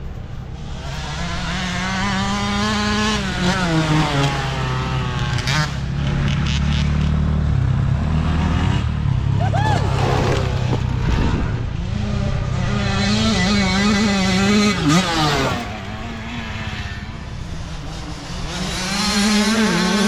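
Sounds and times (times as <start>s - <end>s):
dirt bike engines running: 0.0s - 20.0s.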